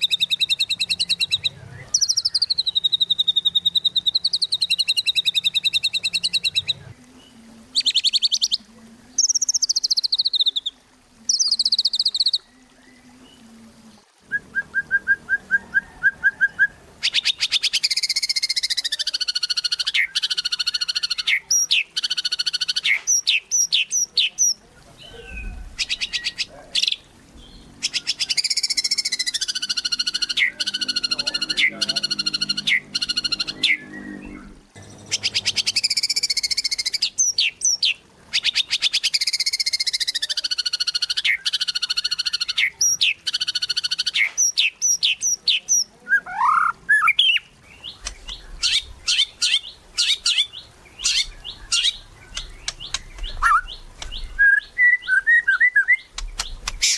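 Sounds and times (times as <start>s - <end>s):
bird singing buzzy phrases: 0.0s - 56.9s.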